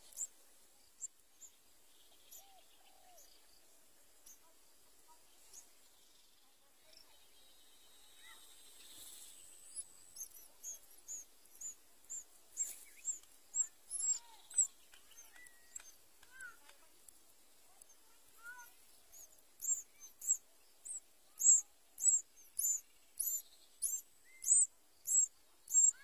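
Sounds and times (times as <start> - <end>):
nestlings begging with high peeps: 0.0 - 0.4, 1.0 - 3.3, 7.2 - 26.0.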